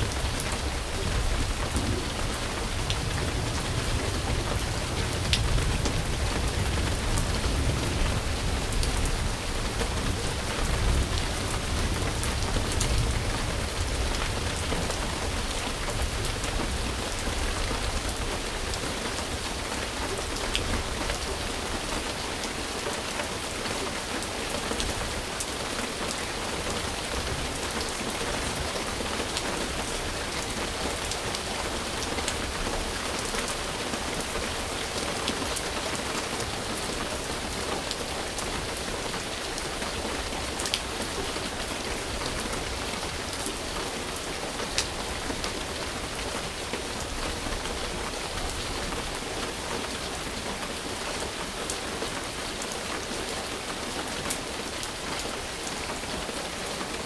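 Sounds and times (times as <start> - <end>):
steady rain on a surface: 0.0 - 57.0.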